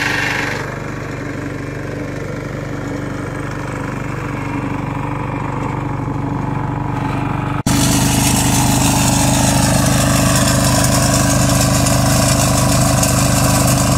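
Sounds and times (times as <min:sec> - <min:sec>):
loud engine running: 0:00.0 - 0:13.9
small tiller engine running: 0:00.0 - 0:13.9.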